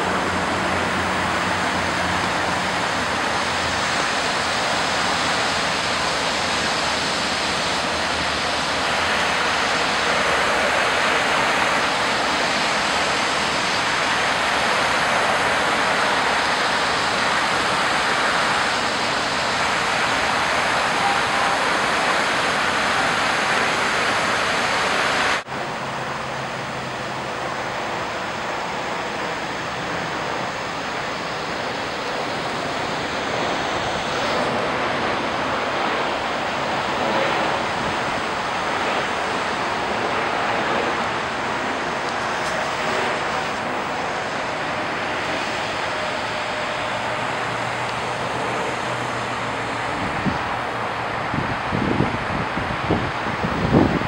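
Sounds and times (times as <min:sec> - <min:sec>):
creek water rushing: 0:00.0 - 0:54.0
water spilling over road crossing: 0:00.0 - 0:54.0.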